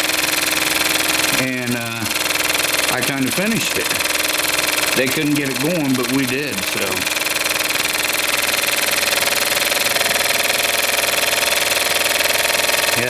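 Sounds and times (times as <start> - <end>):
small steam engine running: 0.0 - 13.0.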